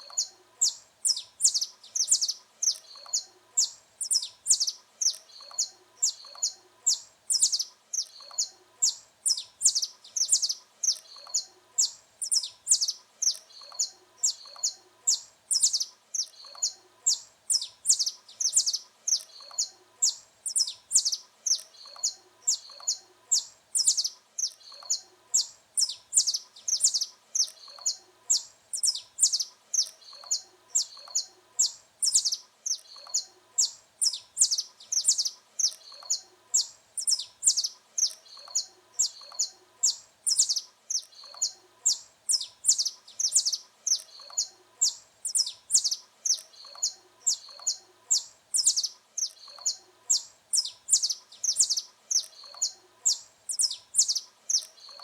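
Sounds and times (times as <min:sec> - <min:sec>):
finch singing: 0:00.0 - 0:55.0.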